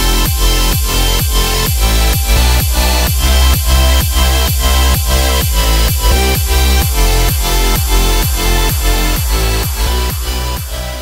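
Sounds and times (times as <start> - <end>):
kick drum: 0.0 - 11.0
sustained synth chords: 0.0 - 11.0.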